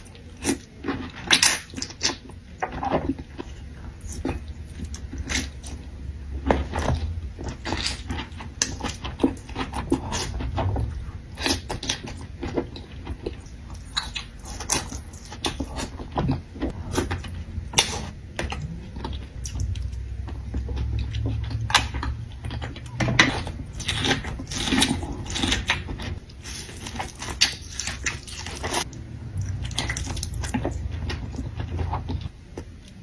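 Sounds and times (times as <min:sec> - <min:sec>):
wet chewing and smacking: 0:00.0 - 0:33.0
low hum: 0:03.2 - 0:14.1, 0:14.8 - 0:33.0
sharp clicks and crunches: 0:06.4 - 0:33.0.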